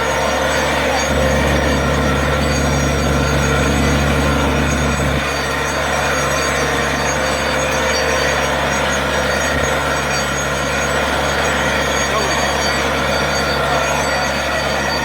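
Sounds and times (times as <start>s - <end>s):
drilling rig engine hum: 0.0s - 15.0s.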